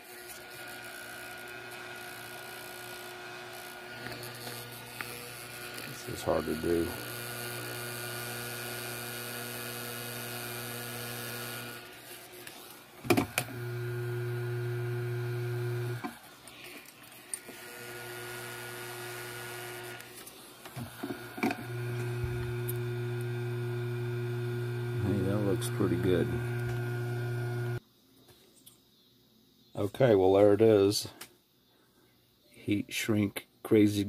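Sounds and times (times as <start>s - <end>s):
hot-air gun blowing: 0.1s - 27.8s.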